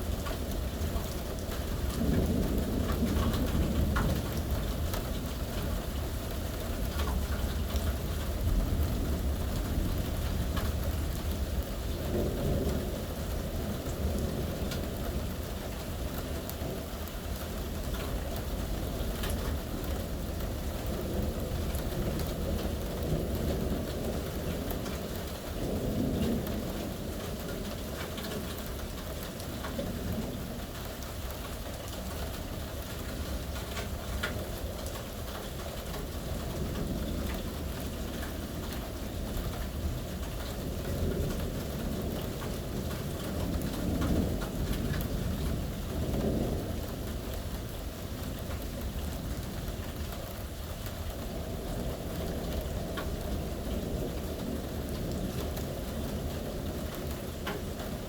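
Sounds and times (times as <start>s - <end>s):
rolling thunder: 0.0s - 31.3s, 32.0s - 58.0s
steady rain falling: 0.0s - 58.0s.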